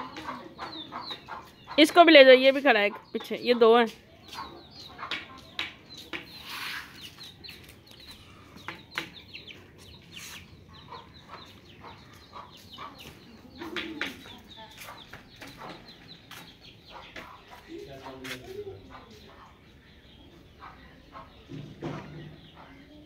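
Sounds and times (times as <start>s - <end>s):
chickens clucking and peeping: 0.0s - 23.0s.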